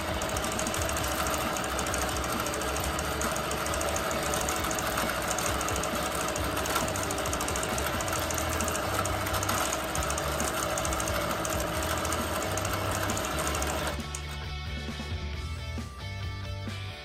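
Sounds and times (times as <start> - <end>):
quilting machine stitching: 0.0 - 14.4.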